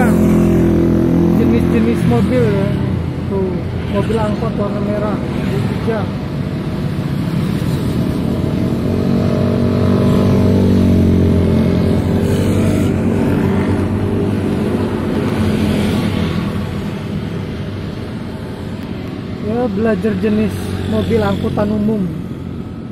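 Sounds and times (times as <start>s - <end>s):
motorcycles and scooters passing: 0.0s - 22.9s.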